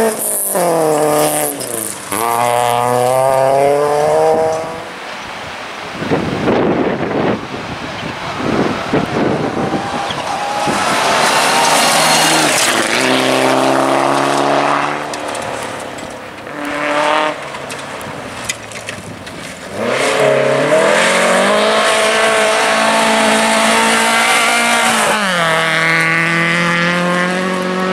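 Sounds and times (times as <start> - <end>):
rally car engine revving: 0.0 - 5.0, 6.0 - 27.9.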